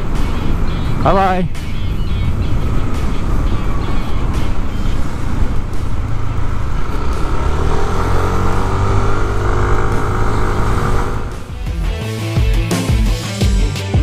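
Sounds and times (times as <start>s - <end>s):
scooter engine rumble: 0.0s - 11.9s
road noise: 0.0s - 12.3s.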